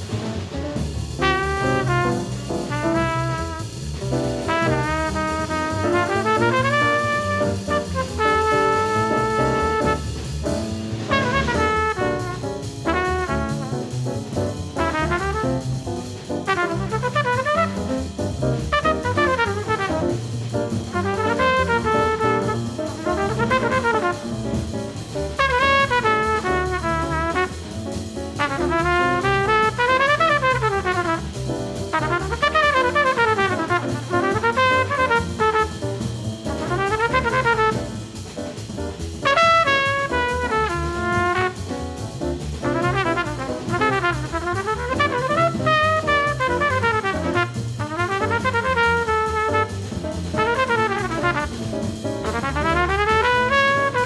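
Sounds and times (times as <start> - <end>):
jazz drums: 0.0 - 54.0
jazz trumpet playing: 0.0 - 54.0
walking upright bass: 0.0 - 54.0.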